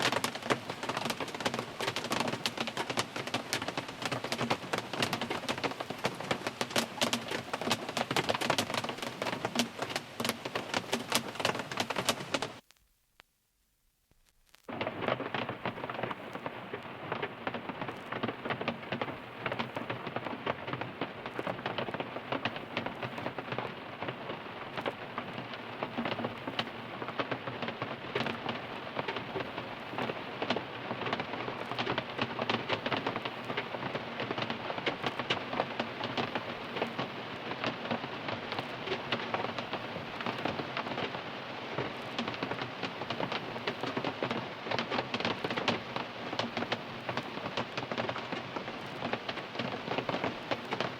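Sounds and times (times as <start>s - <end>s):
rain on a car: 0.0s - 12.7s, 14.7s - 50.9s.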